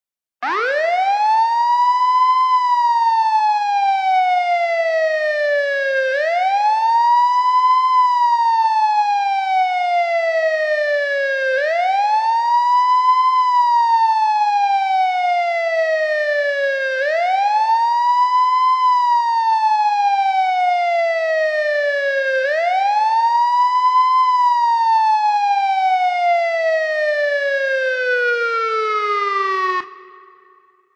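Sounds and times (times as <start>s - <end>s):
police siren wailing: 0.4s - 30.8s.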